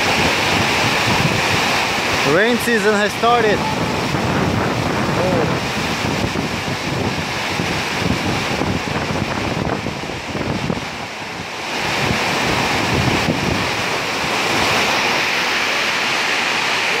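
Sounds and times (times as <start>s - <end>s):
heavy rain on wet street: 0.0s - 17.0s.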